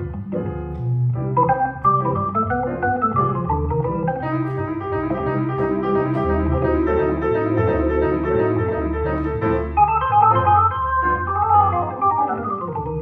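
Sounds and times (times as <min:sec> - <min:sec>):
electric keyboard: 0:00.0 - 0:13.0
grand piano: 0:00.0 - 0:13.0.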